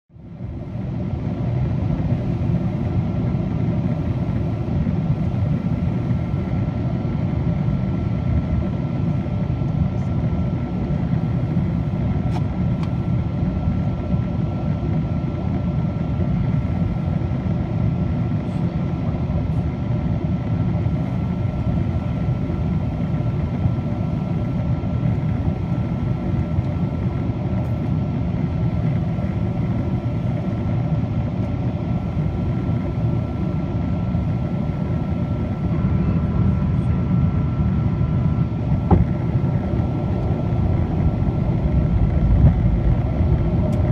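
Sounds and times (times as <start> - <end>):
jet engine roar in cabin: 0.1 - 43.9.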